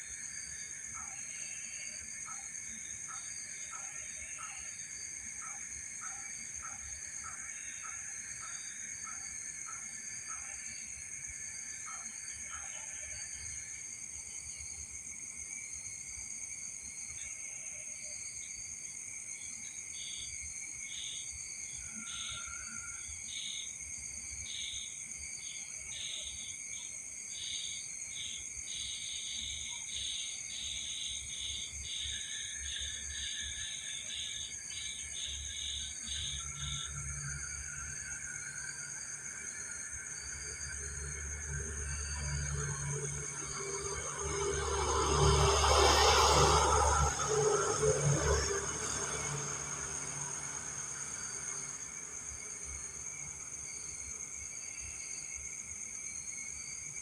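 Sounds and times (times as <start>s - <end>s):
crickets trilling: 0.0s - 57.0s
insect chirping: 0.0s - 57.0s.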